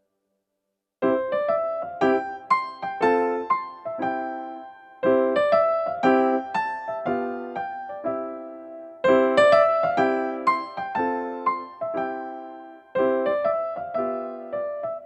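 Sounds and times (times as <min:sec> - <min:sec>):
light piano tune: 0:01.0 - 0:15.0.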